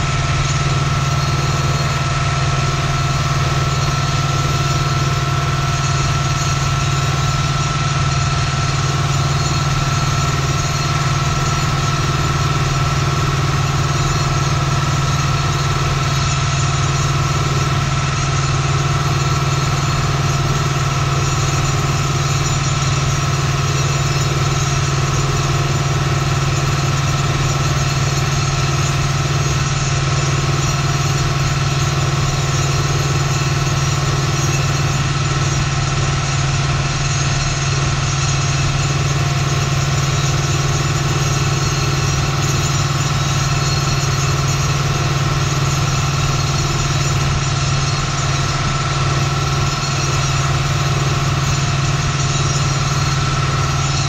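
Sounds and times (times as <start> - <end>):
tractor diesel engine drone: 0.0 - 54.0.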